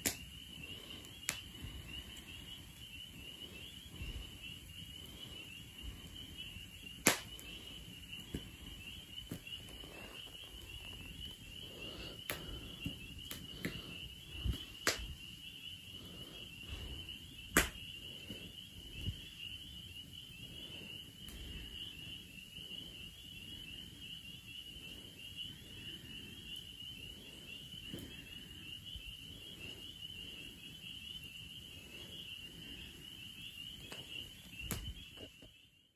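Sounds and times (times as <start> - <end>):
wood fire crackling and popping: 0.0 - 35.6
insect trill: 0.0 - 35.9.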